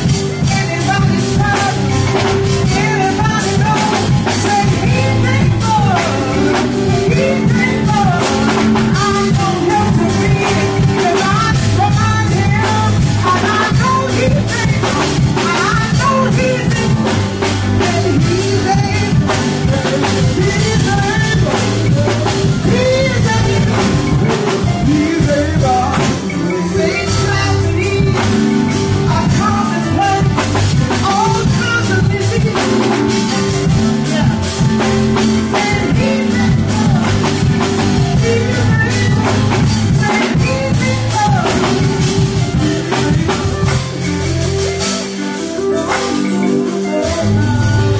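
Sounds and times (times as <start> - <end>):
drum kit: 0.0 - 47.9
electric keyboards: 0.0 - 47.9
person singing: 0.0 - 47.9.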